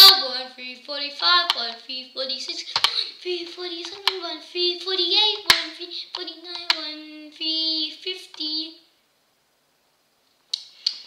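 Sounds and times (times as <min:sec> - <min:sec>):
child chanting: 0:00.0 - 0:08.9.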